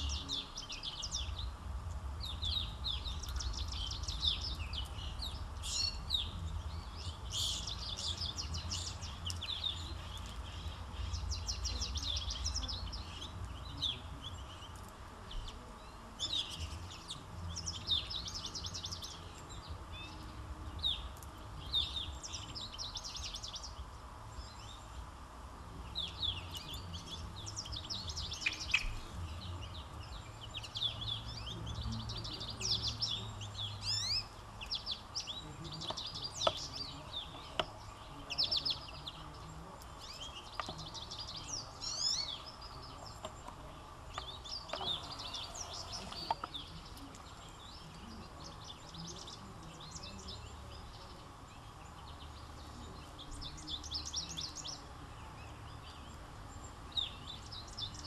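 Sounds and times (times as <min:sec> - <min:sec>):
songbirds singing and chirping: 0:00.0 - 0:58.0.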